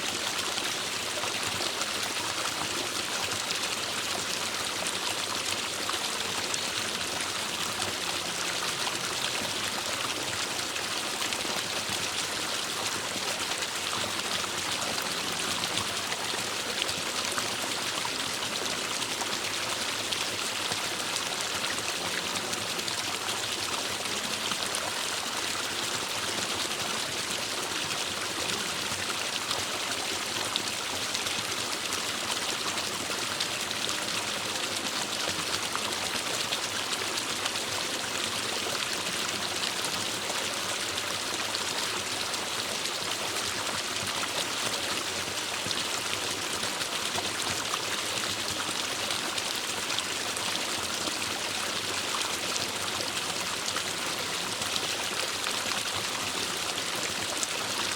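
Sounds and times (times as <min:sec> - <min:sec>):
water flowing over rocks: 0:00.0 - 0:57.9.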